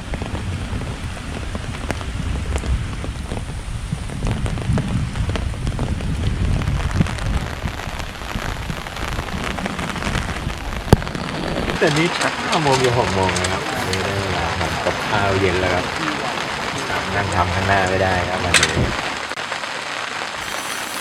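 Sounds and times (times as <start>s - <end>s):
wind buffeting microphone: 0.0s - 19.4s
rain hiss: 0.0s - 21.0s
raindrop hits: 0.0s - 21.0s.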